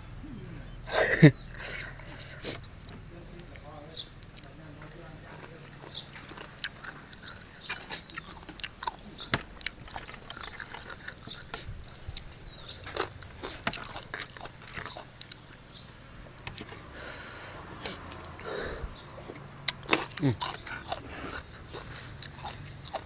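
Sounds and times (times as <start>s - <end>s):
person chewing with crunches: 0.2s - 23.0s.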